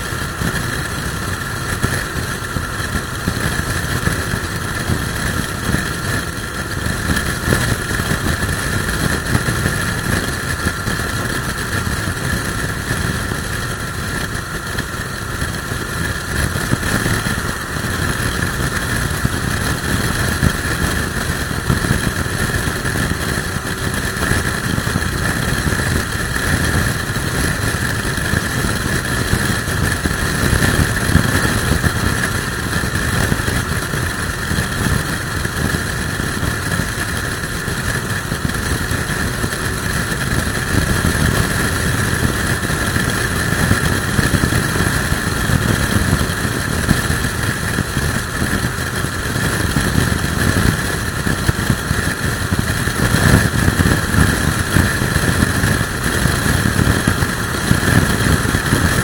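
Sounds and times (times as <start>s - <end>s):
motorcycle engine drone: 0.0s - 59.0s.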